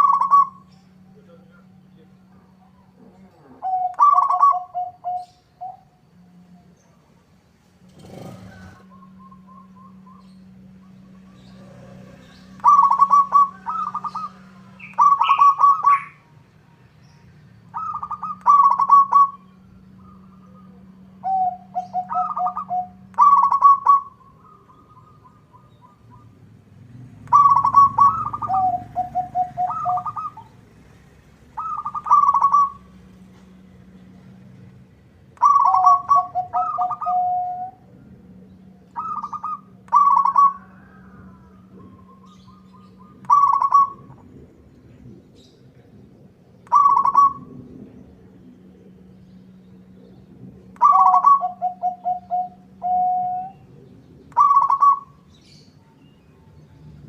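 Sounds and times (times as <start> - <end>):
dove cooing: 0.0 - 6.8, 7.8 - 16.4, 17.7 - 34.7, 35.4 - 44.3, 45.3 - 48.0, 50.1 - 55.6
faint steady hum: 0.0 - 57.0.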